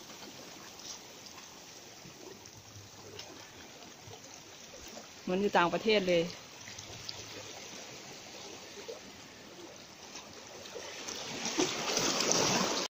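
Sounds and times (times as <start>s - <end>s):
seawater lapping against rocks: 0.0s - 12.9s.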